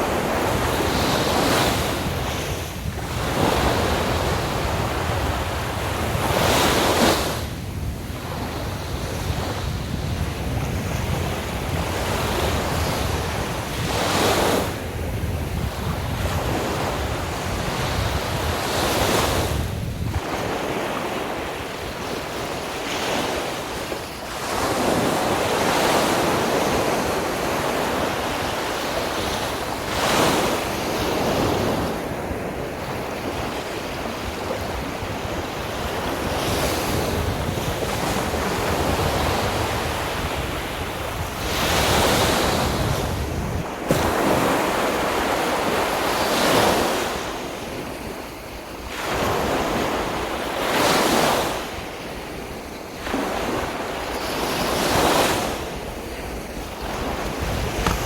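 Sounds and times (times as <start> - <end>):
sea waves breaking on beach: 0.0 - 58.0
wind buffeting microphone: 0.0 - 58.0.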